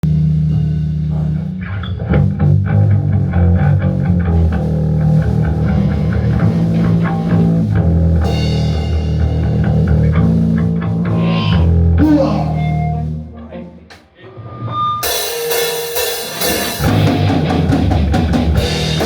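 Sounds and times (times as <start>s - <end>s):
drum kit beat: 0.0s - 13.2s, 15.0s - 19.0s
heavy bass line: 0.0s - 13.9s, 16.0s - 19.0s
electric guitar: 0.0s - 19.0s.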